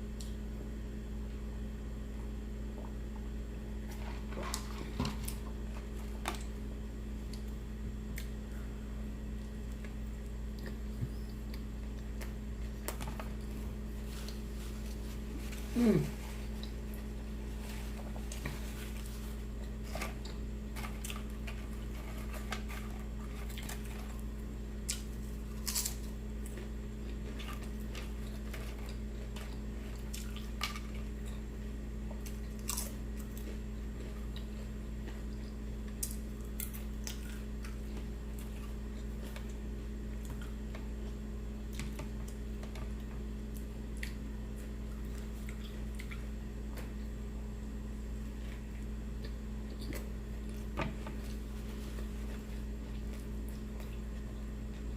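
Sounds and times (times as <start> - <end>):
steady low hum: 0.0 - 54.9
person chewing a sandwich: 2.7 - 47.4, 48.0 - 54.9.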